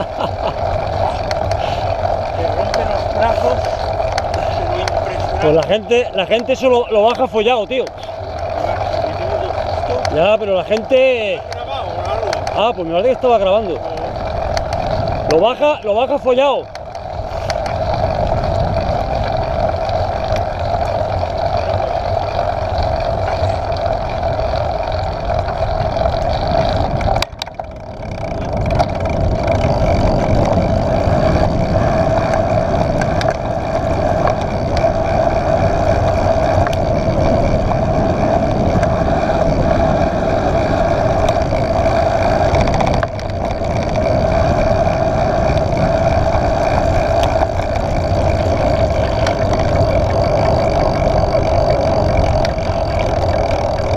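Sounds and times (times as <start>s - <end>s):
tyres humming on road: 0.0s - 53.9s
wind rushing over microphone: 0.0s - 53.9s.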